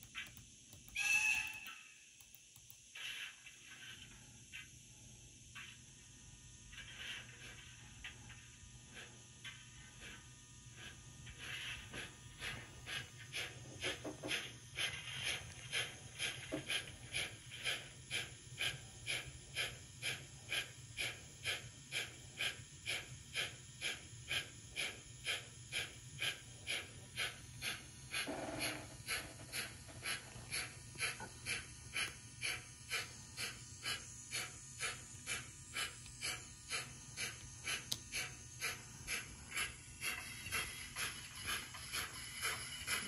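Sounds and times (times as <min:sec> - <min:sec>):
steam locomotive chuffs: 0:00.0 - 0:04.7, 0:06.7 - 0:43.0
steady low hum: 0:01.6 - 0:43.0.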